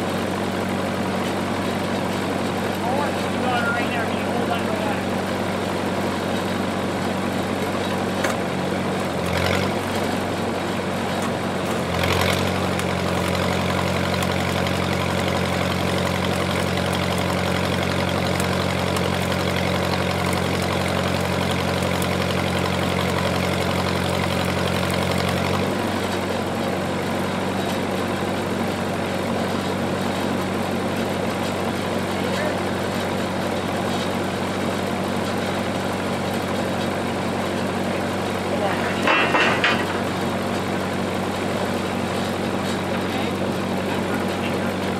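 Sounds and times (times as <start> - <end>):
welding generator engine running: 0.0 - 44.9.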